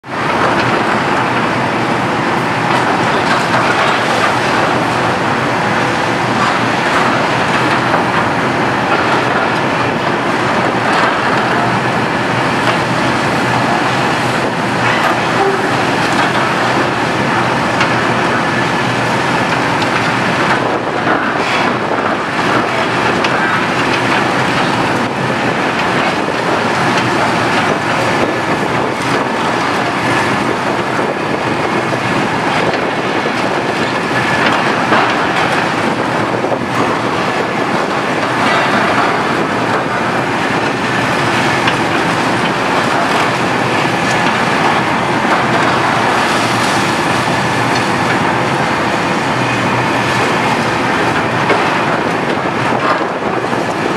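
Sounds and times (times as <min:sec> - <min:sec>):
excavator engine and hydraulics: 0:00.0 - 0:53.9.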